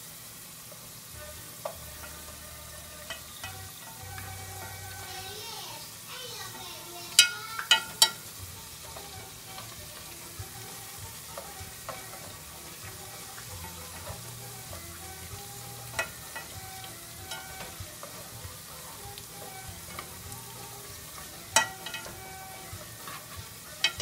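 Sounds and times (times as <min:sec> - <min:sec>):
food frying in oil: 0:00.0 - 0:24.0.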